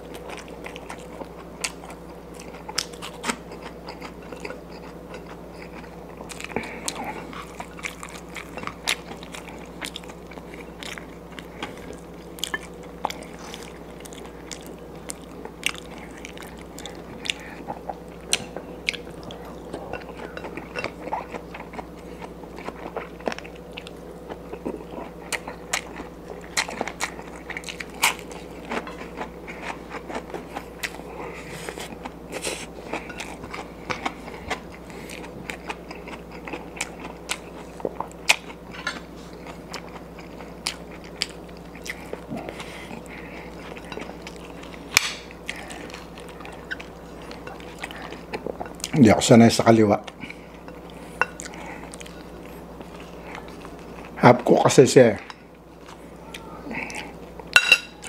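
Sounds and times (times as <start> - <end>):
chewing and crunching food: 0.0 - 58.0
faint steady hum: 0.0 - 58.0.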